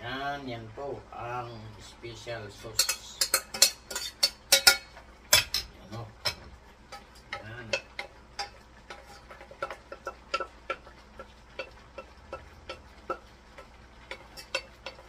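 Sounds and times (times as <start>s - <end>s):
wooden spatula tapping a saucepan: 2.8s - 15.0s.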